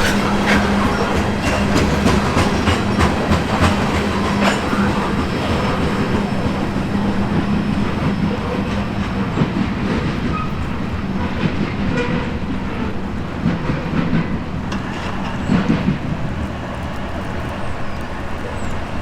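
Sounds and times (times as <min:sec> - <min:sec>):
freight train rumbling past: 0:00.0 - 0:19.0
wheels clacking over track: 0:00.0 - 0:19.0.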